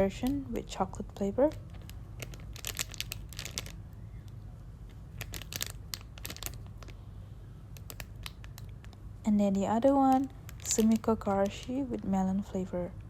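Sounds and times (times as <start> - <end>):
foam toy crinkling and clicking: 0.0 - 7.0, 7.7 - 9.0, 9.7 - 11.8.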